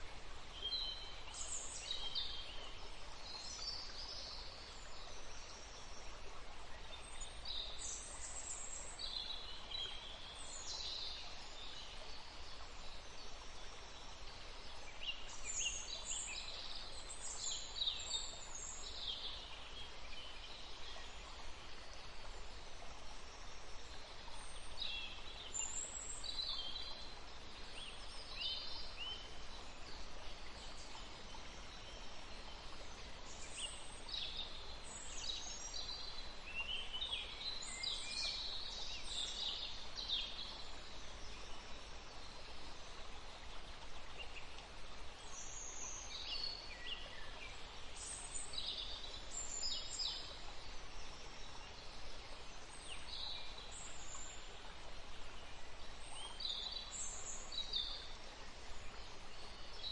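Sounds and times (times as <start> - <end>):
faint background hiss: 0.0 - 59.9.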